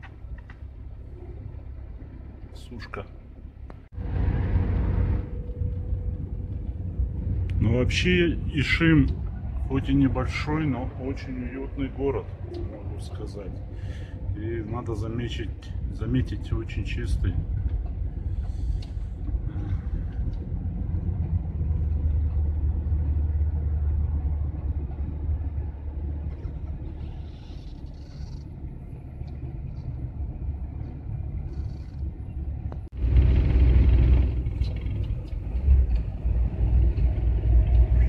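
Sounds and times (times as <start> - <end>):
road noise: 0.0 - 38.0
van engine rumble: 0.0 - 38.0.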